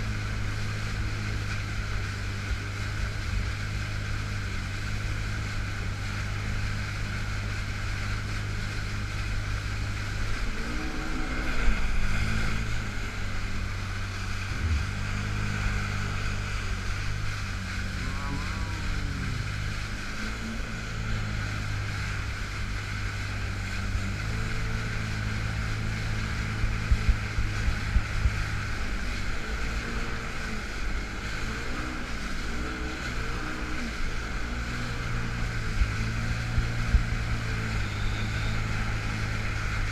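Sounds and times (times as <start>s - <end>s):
jet ski engine running: 0.0s - 39.9s
rushing water: 0.0s - 39.9s
wind on microphone: 5.8s - 39.9s.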